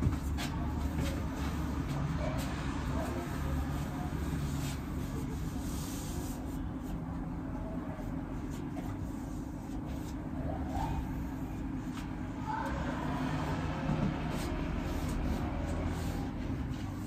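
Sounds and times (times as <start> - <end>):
paper towel wiping window frame: 0.0 - 7.1, 7.8 - 17.0.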